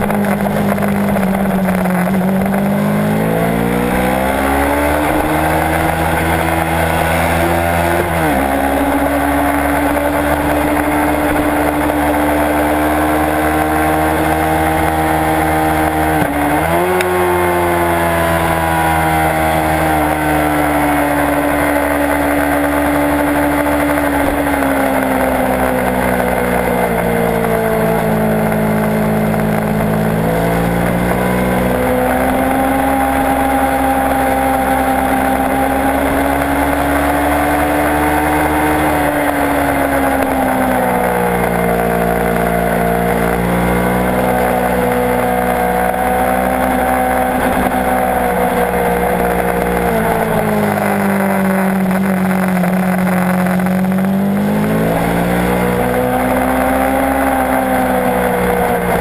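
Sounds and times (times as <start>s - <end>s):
motorcycle engine revving: 0.0s - 59.0s
motorcycle gear change: 0.0s - 59.0s.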